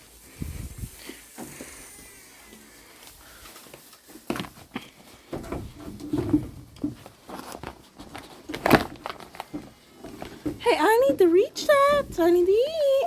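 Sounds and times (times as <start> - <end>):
rustling and scuffing: 0.0 - 13.0.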